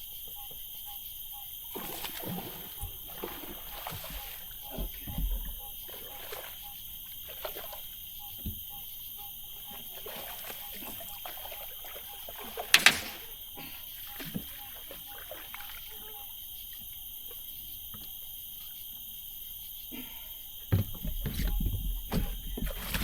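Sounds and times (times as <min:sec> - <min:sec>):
crickets and insects chirping: 0:00.0 - 0:23.0
small water splashes: 0:01.5 - 0:18.2, 0:20.9 - 0:23.0.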